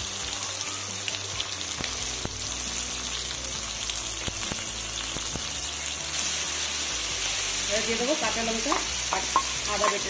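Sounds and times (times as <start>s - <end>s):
frying hiss: 0.0s - 10.0s.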